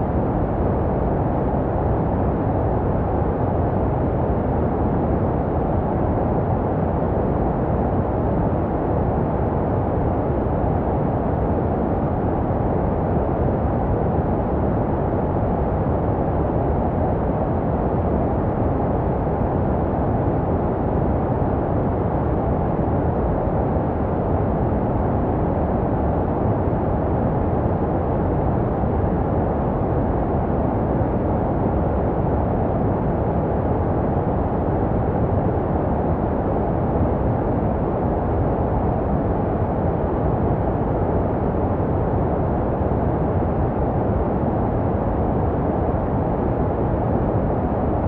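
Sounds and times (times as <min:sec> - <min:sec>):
deep muffled white noise: 0:00.0 - 0:48.0.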